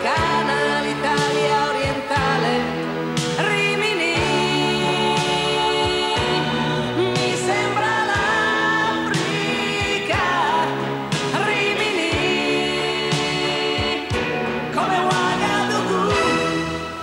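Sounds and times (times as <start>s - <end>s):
woman singing: 0.0s - 14.2s, 14.8s - 16.8s
keyboards: 0.0s - 17.0s.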